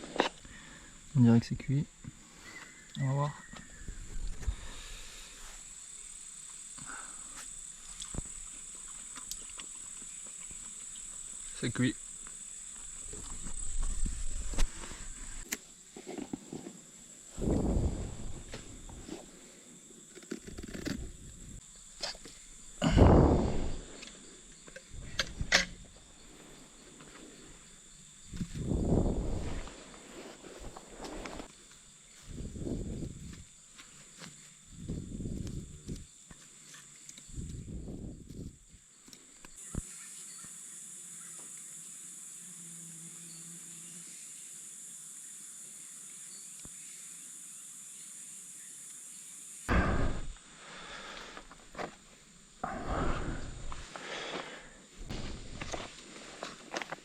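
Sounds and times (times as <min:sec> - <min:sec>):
high-pitched insect drone: 0:00.4 - 0:15.5, 0:17.2 - 0:30.0, 0:30.7 - 0:51.9.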